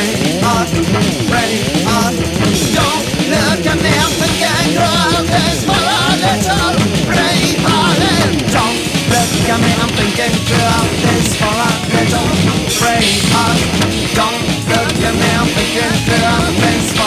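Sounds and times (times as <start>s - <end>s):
punk rock music: 0.0s - 17.0s.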